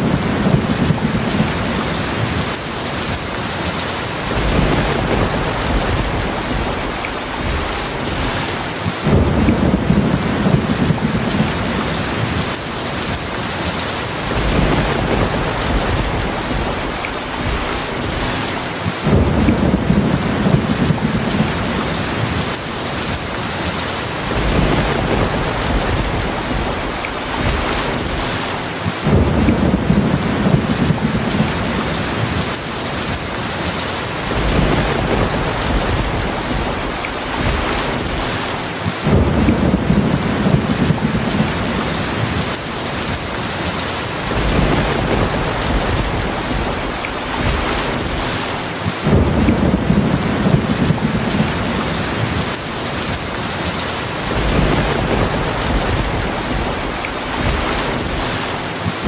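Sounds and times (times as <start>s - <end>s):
heavy rain falling: 0.0s - 59.0s
thunder rumbling: 0.0s - 59.0s.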